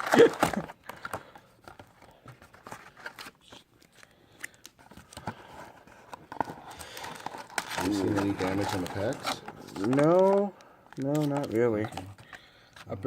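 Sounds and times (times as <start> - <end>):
card box and foil packs rustling: 0.0 - 13.0.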